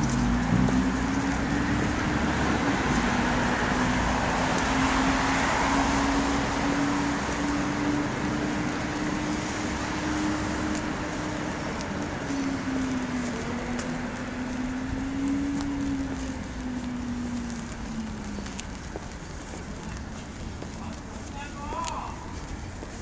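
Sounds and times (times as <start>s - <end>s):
traffic engine hum: 0.0s - 23.0s
vehicle passing on wet road: 0.0s - 23.0s.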